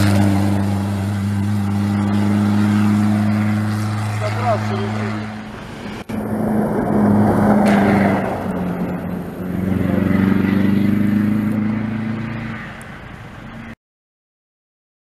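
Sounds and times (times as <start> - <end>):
truck engine at full throttle: 0.0 - 13.8.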